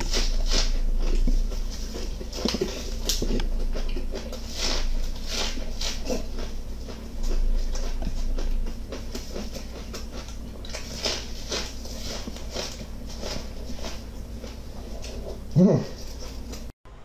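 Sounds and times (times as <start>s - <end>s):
crunching and chewing green onion: 0.0s - 16.7s.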